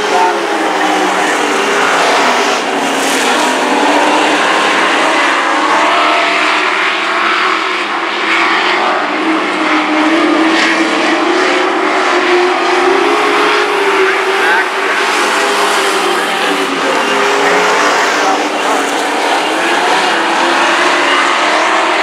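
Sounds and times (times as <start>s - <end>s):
race truck engines: 0.0s - 22.0s.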